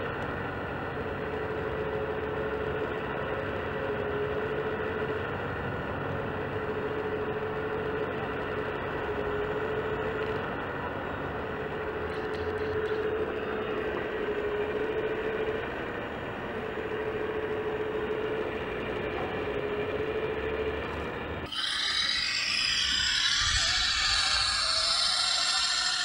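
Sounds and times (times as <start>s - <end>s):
hydraulic pump whine: 0.0s - 26.0s.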